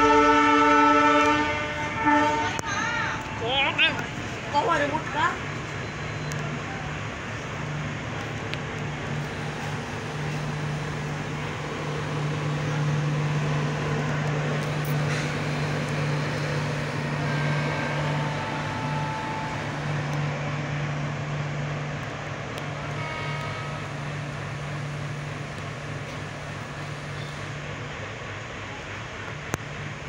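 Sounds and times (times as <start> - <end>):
train rumbling running noise: 0.0 - 30.0.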